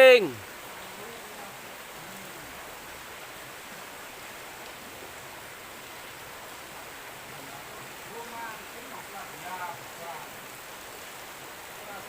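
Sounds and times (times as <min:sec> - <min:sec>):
river flowing over stones: 0:00.0 - 0:12.0.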